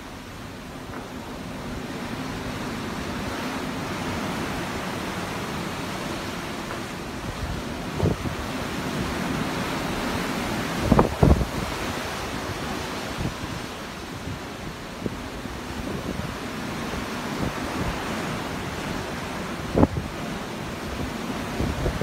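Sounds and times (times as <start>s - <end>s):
ocean waves surf: 0.0s - 22.0s
wind buffeting microphone: 0.6s - 22.0s.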